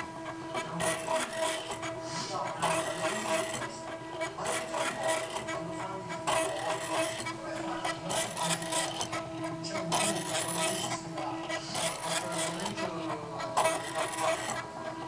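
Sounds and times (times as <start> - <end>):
stepper motors whining: 0.0 - 15.0
arm mechanism scraping and rattling: 0.8 - 5.6, 6.2 - 12.8, 13.6 - 14.6.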